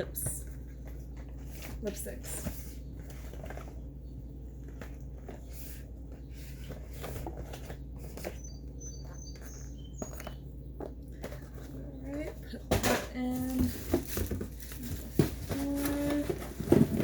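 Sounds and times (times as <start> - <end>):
packaging clicks and rustles: 0.1 - 12.6, 13.3 - 17.0.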